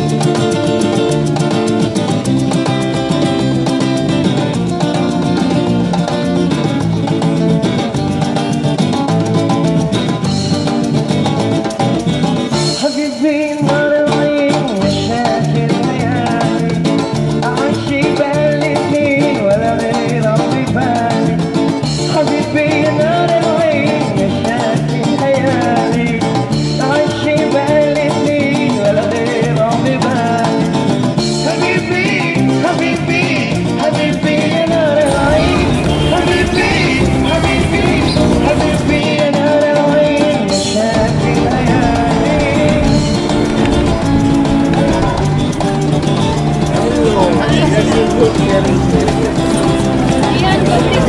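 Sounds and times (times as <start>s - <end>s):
lively salsa-style music: 0.0s - 51.0s.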